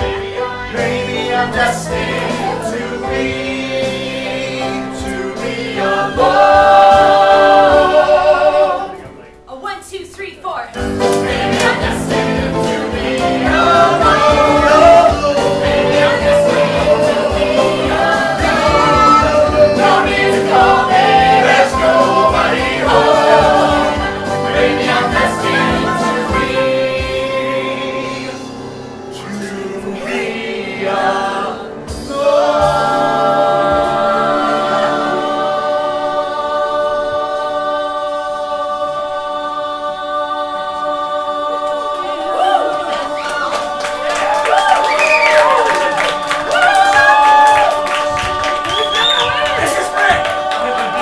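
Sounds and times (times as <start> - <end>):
group singing a show tune: 0.0 - 9.4, 10.8 - 51.0
backing music with steady beat: 0.0 - 9.5, 10.8 - 51.0.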